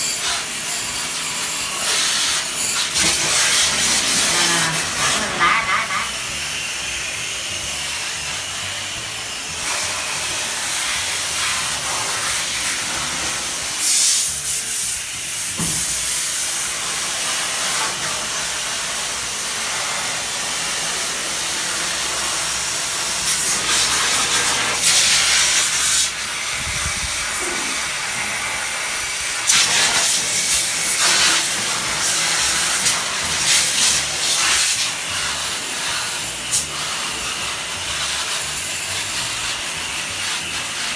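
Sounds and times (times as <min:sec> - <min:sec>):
water spray hissing: 0:00.0 - 0:40.9.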